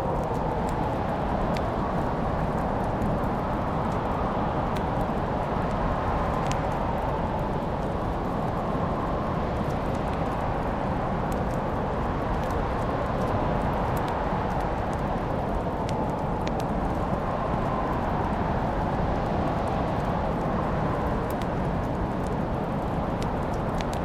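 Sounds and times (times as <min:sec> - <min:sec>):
steady rushing noise: 0:00.0 - 0:24.0
wood fire crackling: 0:00.0 - 0:24.0.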